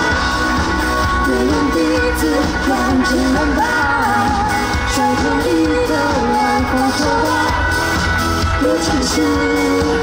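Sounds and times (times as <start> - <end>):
bass guitar: 0.0 - 10.0
lead vocal singing: 0.0 - 10.0.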